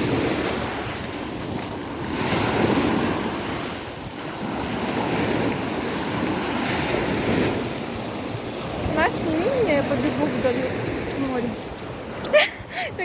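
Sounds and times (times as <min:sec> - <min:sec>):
sea surf breaking: 0:00.0 - 0:13.0
wind on microphone: 0:00.0 - 0:13.0.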